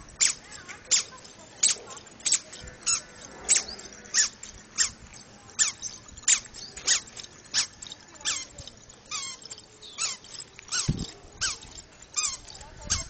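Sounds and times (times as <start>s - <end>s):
squeaky shoes squeaking: 0.0s - 13.0s.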